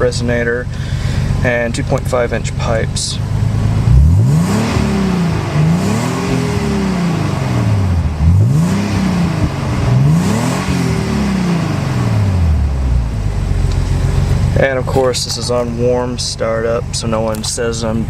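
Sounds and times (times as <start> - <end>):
car engine revving: 0.6 - 18.0.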